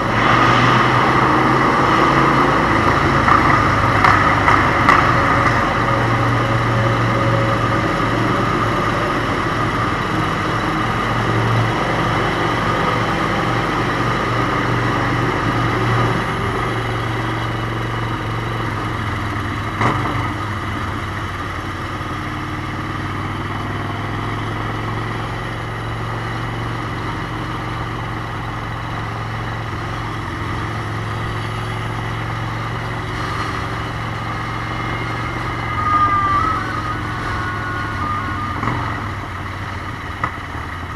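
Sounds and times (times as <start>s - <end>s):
motorcycle engine running: 2.2s - 40.9s.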